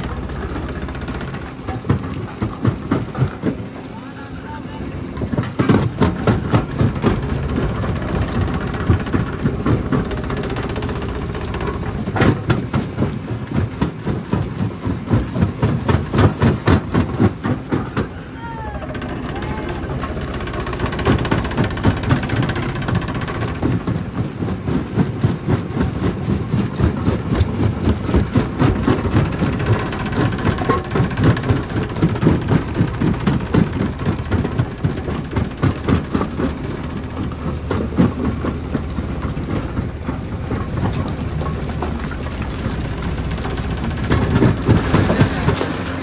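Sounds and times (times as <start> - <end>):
rock crusher knocking and cracking: 0.0 - 3.9, 5.1 - 18.1, 18.9 - 46.0
low mechanical drone: 0.0 - 46.0.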